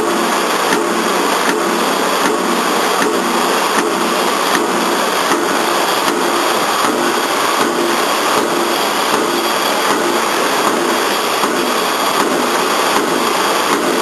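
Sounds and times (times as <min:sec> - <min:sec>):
machine running: 0:00.0 - 0:14.0
press punching steel plate: 0:00.0 - 0:14.0.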